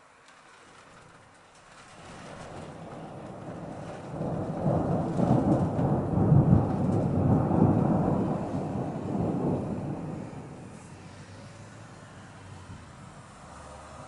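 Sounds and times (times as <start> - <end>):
thunder rumbling: 0.8 - 13.5.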